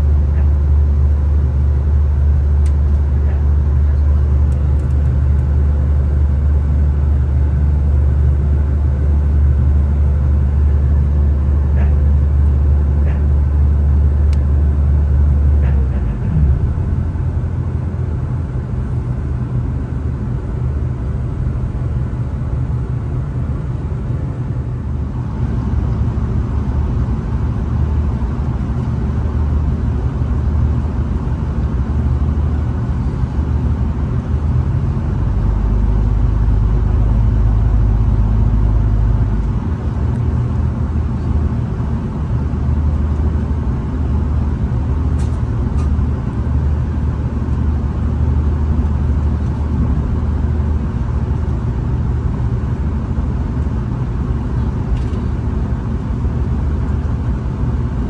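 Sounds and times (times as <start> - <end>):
railcar engine and wheels rumbling: 0.0 - 58.0.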